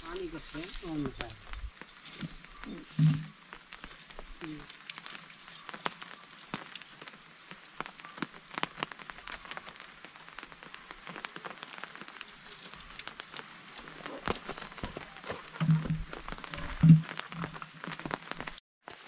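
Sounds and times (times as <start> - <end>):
water pattering and dripping: 0.0 - 18.6.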